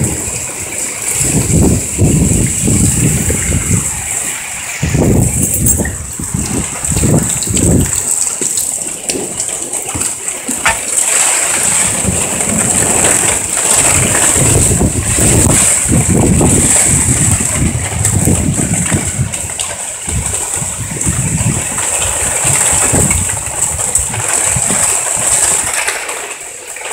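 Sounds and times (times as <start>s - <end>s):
storm wind gusting on microphone: 0.0s - 25.9s.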